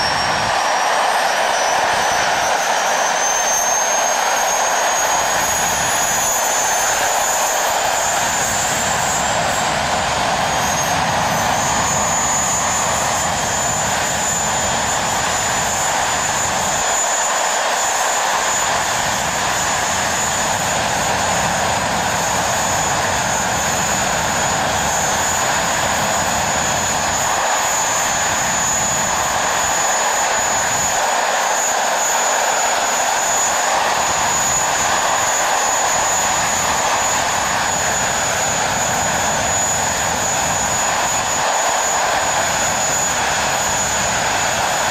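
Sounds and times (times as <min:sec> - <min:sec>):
high jet whine: 0:00.0 - 0:44.9
jet engine roar: 0:00.0 - 0:44.9.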